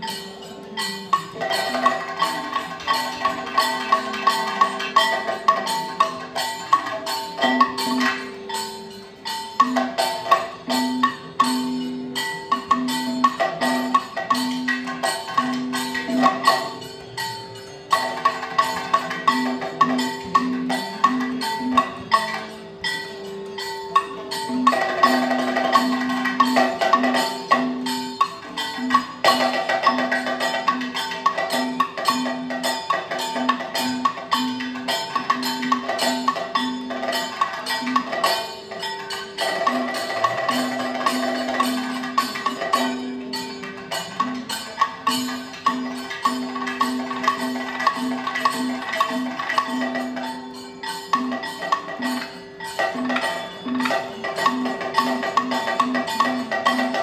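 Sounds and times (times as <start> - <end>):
ringing metal strikes: 0.0 - 57.0.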